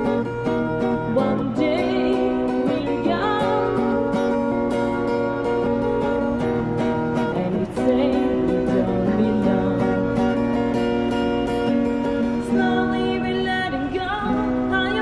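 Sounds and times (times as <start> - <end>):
woman singing: 0.0 - 6.4, 7.1 - 15.0
acoustic guitar strumming: 0.0 - 15.0.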